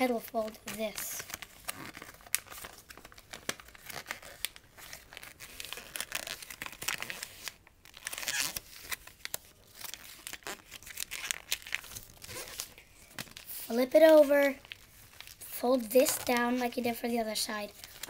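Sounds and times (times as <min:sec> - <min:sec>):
paper crinkling: 0:00.0 - 0:18.0.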